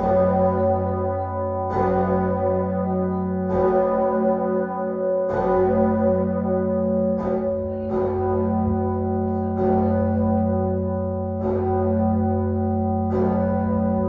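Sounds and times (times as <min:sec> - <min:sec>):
tower bells ringing: 0:00.0 - 0:14.0.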